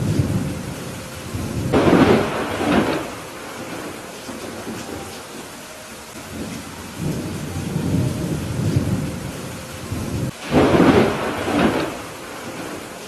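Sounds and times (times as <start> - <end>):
sharp thunderclap: 0.0 - 5.0, 6.3 - 13.0
rolling thunder: 0.0 - 13.0
steady rain: 0.0 - 13.0.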